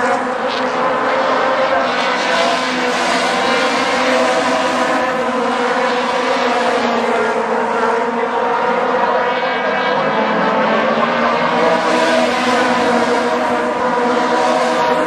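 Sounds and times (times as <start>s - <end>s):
race cars engines droning past: 0.0s - 15.0s.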